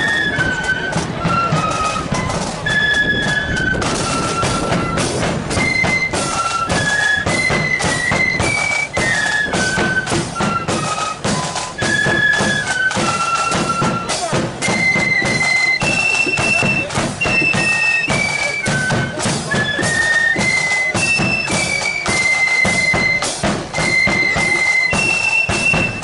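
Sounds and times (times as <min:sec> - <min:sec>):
flutes playing melody: 0:00.0 - 0:26.0
marching drums: 0:00.0 - 0:26.0.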